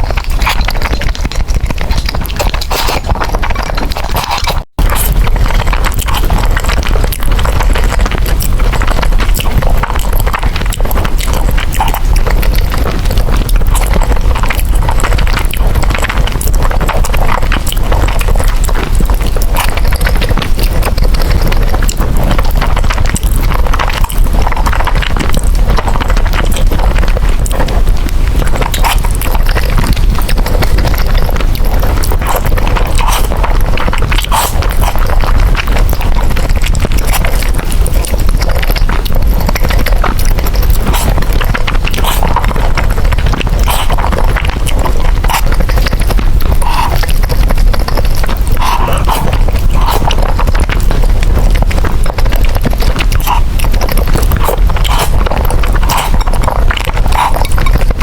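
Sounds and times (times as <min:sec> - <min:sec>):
mouth clicks: 0:00.0 - 0:58.0
wet chewing of noodles: 0:00.0 - 0:58.0.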